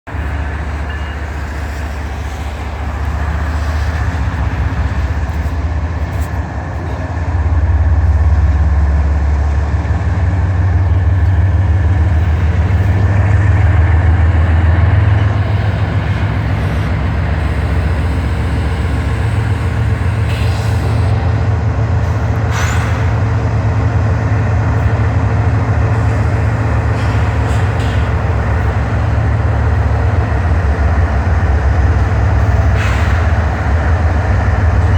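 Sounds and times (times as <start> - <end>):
diesel locomotives rumbling: 0.0 - 34.9.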